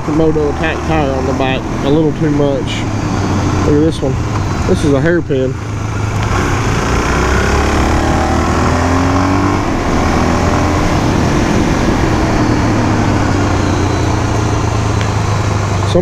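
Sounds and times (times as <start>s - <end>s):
motorcycle engine running: 0.0s - 16.0s
rushing wind and road noise: 0.0s - 16.0s.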